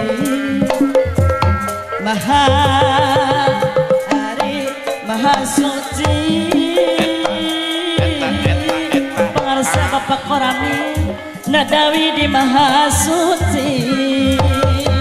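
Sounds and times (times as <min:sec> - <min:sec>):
high wavering melody: 0:00.0 - 0:14.2
hand drums beating: 0:00.0 - 0:15.0.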